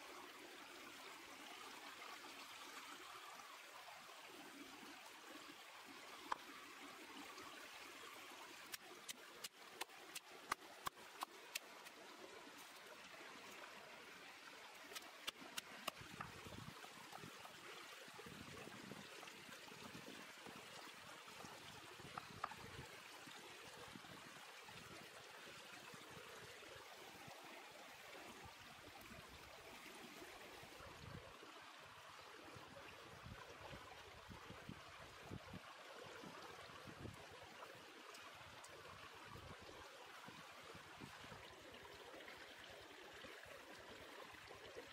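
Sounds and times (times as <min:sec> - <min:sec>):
stream running: 0:00.0 - 0:44.9.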